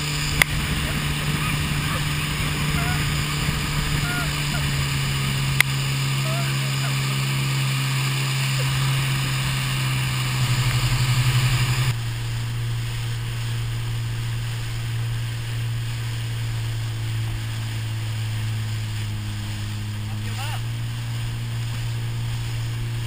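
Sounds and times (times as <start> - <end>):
churning wake water: 0.0 - 23.0
motorboat engine humming: 0.0 - 23.0
wind: 0.0 - 23.0.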